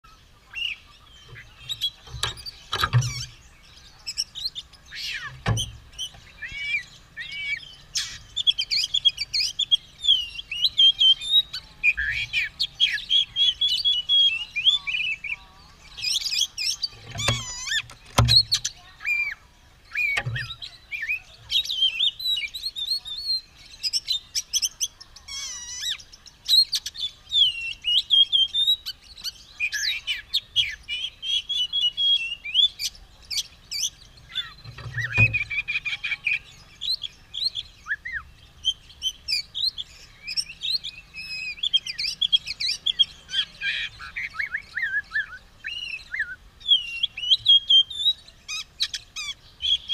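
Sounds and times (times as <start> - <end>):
bird singing whistles and warbles: 0.0 - 49.9.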